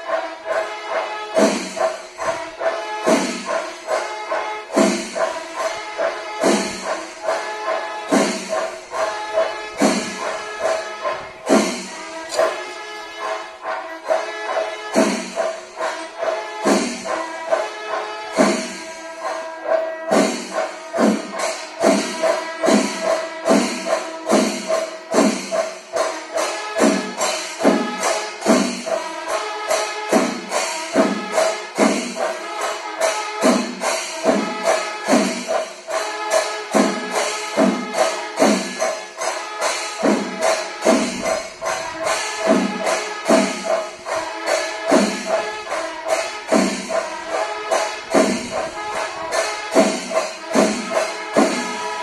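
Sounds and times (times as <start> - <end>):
percussive beat: 0.1 - 52.0.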